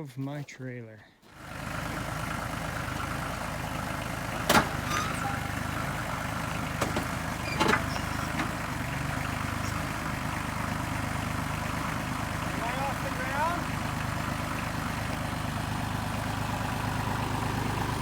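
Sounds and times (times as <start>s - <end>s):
vehicle engine running: 1.3s - 18.0s.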